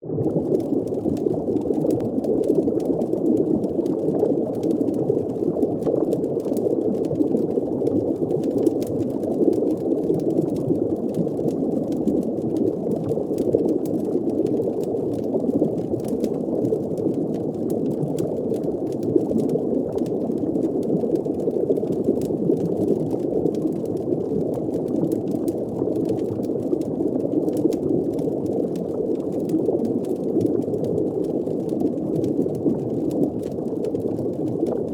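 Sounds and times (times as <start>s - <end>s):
faint crackles: 0.0s - 34.9s
underwater bubbling water: 0.0s - 34.9s.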